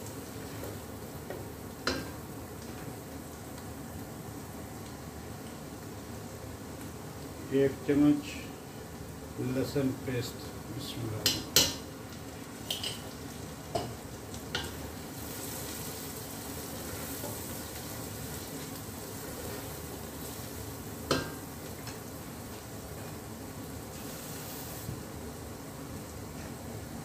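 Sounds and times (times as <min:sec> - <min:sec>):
onions sizzling in ghee: 0:00.0 - 0:27.0.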